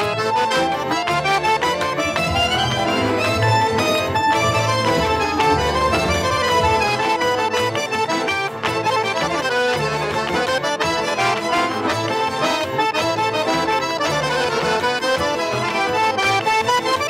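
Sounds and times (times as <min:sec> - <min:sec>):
piano accordion melody: 0:00.0 - 0:17.0.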